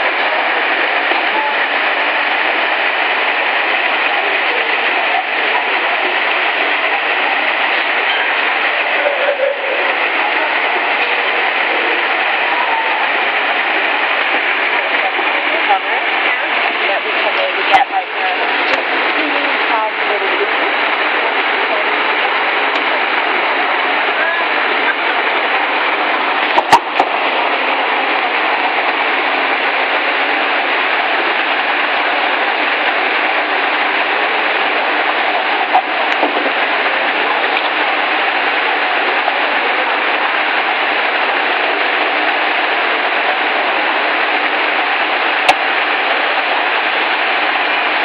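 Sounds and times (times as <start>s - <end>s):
loud steady rushing noise: 0.0s - 48.0s.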